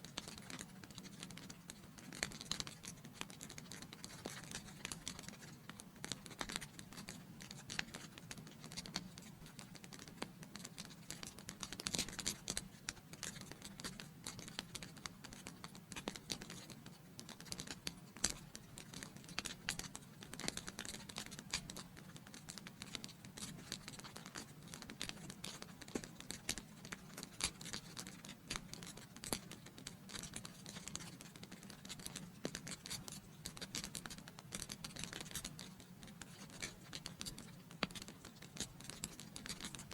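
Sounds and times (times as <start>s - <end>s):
soft steady hiss: 0.0s - 39.9s.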